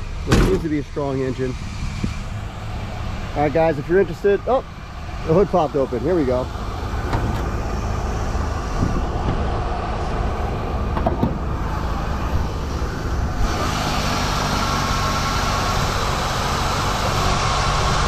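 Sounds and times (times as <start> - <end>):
car engine idling: 0.0 - 18.0
hissing rush: 1.0 - 18.0.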